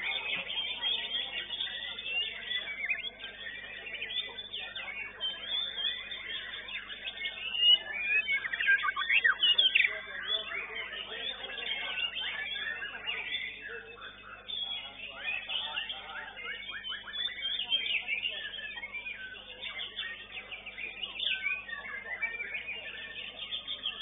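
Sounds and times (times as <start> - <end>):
songbirds whistling and trilling: 0.0 - 24.0.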